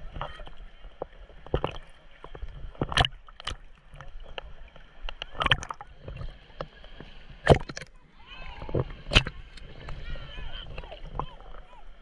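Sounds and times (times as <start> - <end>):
water lapping and splashing: 0.0 - 12.0.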